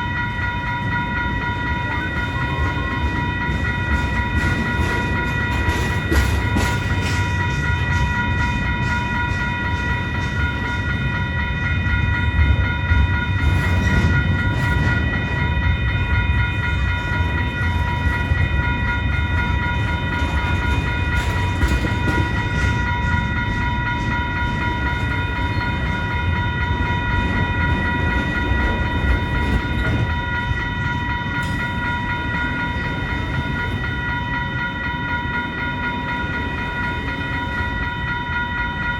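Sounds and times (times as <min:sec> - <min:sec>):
freight train rumbling: 0:00.0 - 0:38.9.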